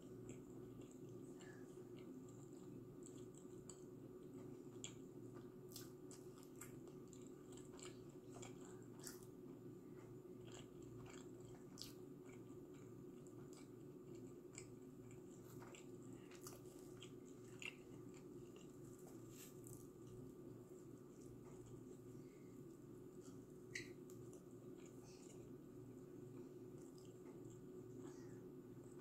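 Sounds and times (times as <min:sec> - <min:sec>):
chewing crunchy crust: 0:00.0 - 0:29.0
low steady hum: 0:00.0 - 0:29.0.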